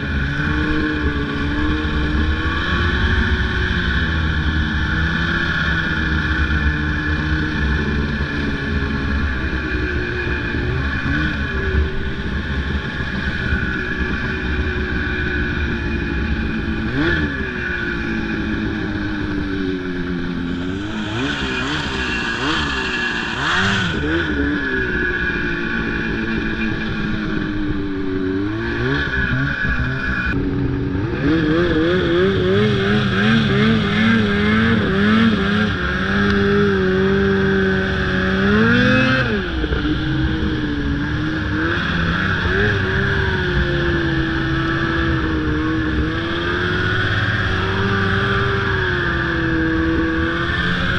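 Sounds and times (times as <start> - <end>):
snowmobile engine revving: 0.0 - 50.9.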